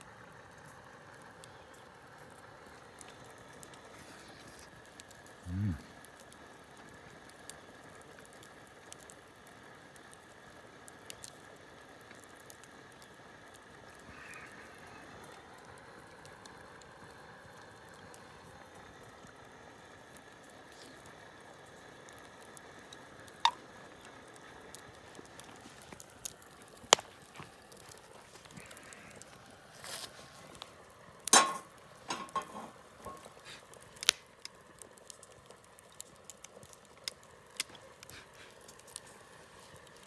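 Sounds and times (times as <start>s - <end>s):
campfire crackling: 0.0s - 40.0s
low outdoor hush: 0.2s - 40.0s.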